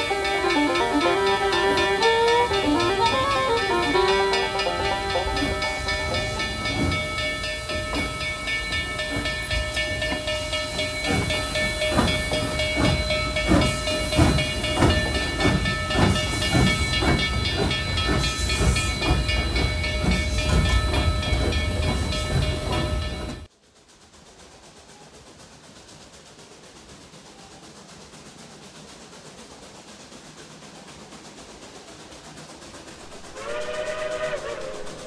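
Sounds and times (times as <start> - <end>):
steam exhaust chuffs: 0.0 - 35.0
steam locomotive hissing: 0.0 - 35.0.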